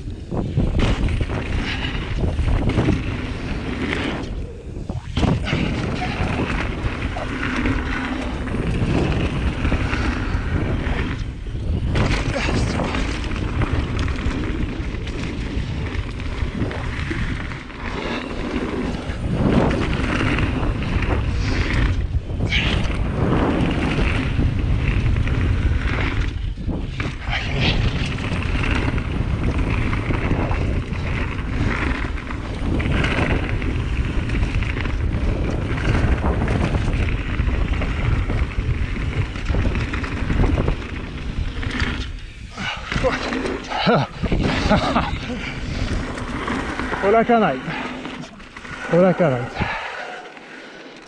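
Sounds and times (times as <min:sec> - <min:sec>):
bike tyres rumbling on dirt: 0:00.0 - 0:51.0
wind rushing over microphone: 0:00.0 - 0:51.0
bike knocks and rattles: 0:00.3 - 0:04.4, 0:05.0 - 0:48.6.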